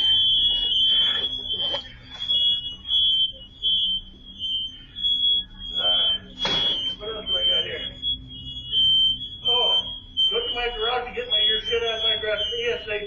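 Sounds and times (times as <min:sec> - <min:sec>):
high-pitched alarm beeps: 0:00.0 - 0:13.0.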